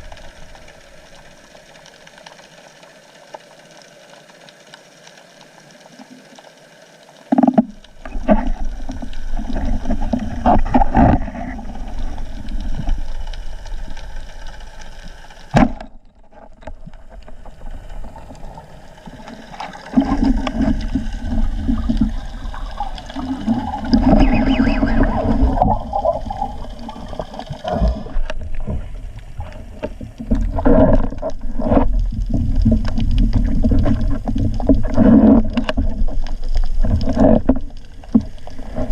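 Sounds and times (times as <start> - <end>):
muffled underwater water movement: 0.0 - 38.9
underwater gurgling: 0.0 - 38.9.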